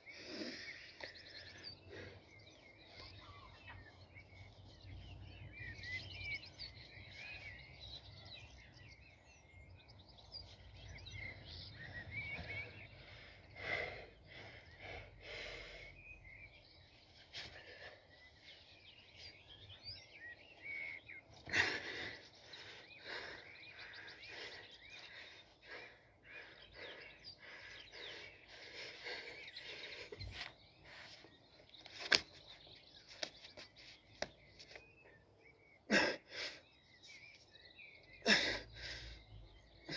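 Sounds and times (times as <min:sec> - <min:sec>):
faint birdsong: 0:00.0 - 0:39.9.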